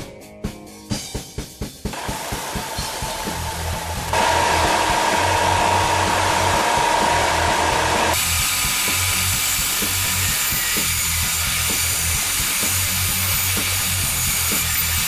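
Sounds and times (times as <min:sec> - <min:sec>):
background music with steady beat: 0:00.0 - 0:15.0
band saw cutting wood: 0:01.9 - 0:15.0
belt sander sanding wood: 0:01.9 - 0:15.0.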